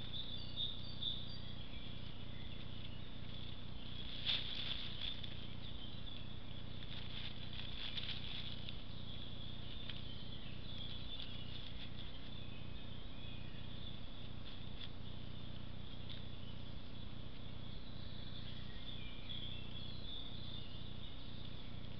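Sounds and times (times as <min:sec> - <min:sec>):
birds chirping and trilling: 0:00.0 - 0:21.9
low electrical hum: 0:00.0 - 0:21.9.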